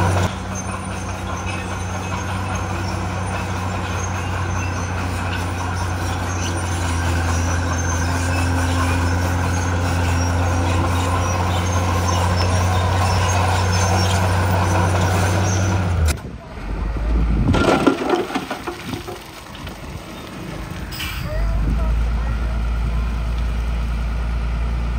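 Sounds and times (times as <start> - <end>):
heavy diesel engine droning: 0.0 - 17.6, 19.8 - 24.9.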